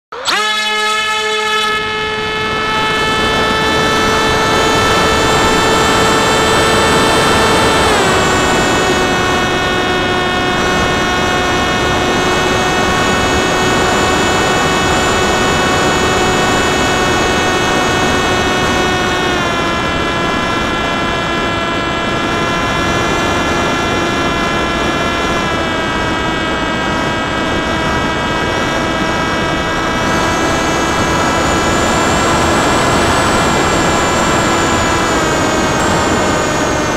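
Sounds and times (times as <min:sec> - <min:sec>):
electric motor whine: 0:00.1 - 0:36.9
wind rushing past microphone: 0:02.0 - 0:36.9.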